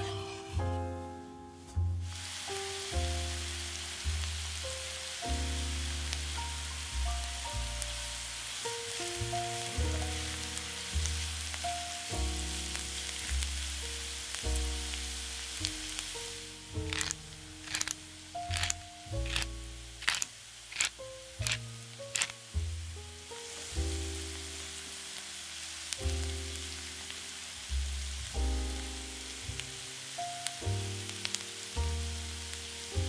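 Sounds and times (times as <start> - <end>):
background music with bass: 0.0 - 20.1, 20.9 - 25.0, 26.0 - 33.0
onion sizzling in oil: 0.0 - 33.0.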